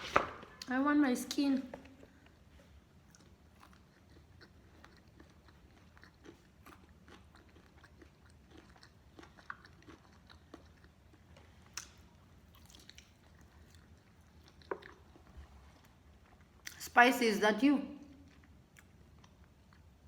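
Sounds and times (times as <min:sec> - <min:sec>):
chewing and crunching food: 0:01.8 - 0:16.9, 0:18.1 - 0:20.0.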